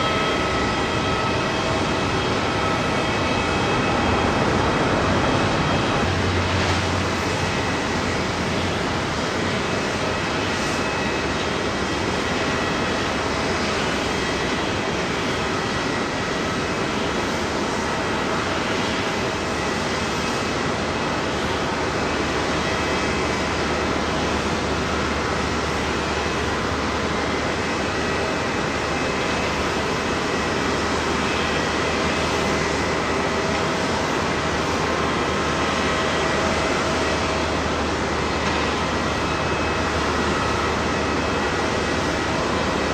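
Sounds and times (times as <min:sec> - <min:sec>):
jet engines running: 0:00.0 - 0:42.9.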